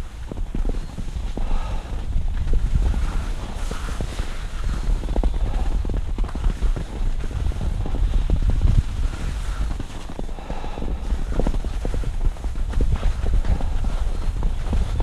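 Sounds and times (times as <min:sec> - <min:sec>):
skis chattering over snow: 0:00.0 - 0:15.0
wind buffeting microphone: 0:00.0 - 0:15.0.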